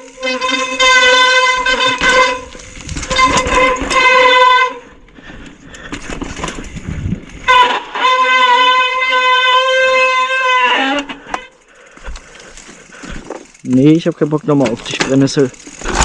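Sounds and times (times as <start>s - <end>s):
bicycle brake squealing: 0.0s - 5.0s, 7.3s - 14.1s, 14.8s - 16.0s
rumbling tyre noise: 0.0s - 16.0s.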